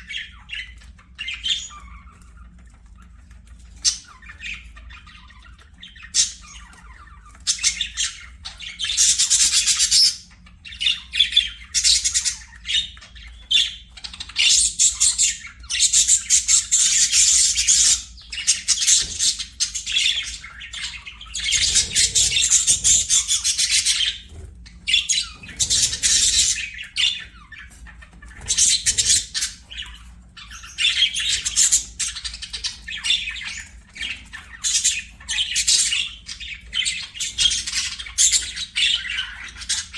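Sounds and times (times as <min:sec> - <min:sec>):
budgerigars warbling and chattering: 0:00.0 - 0:39.9.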